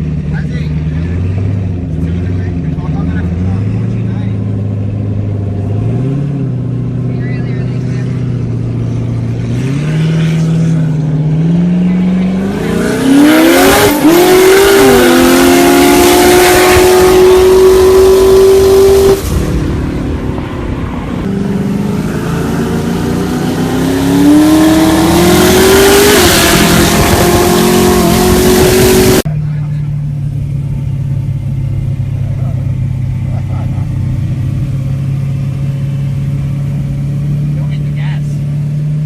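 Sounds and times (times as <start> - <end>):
car engine at full throttle: 0.0 - 39.0.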